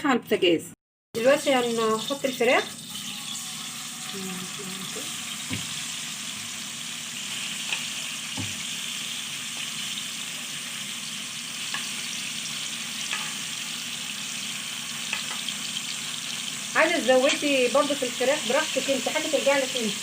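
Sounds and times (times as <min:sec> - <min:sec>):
chicken sizzling in a pan: 0:01.2 - 0:20.0.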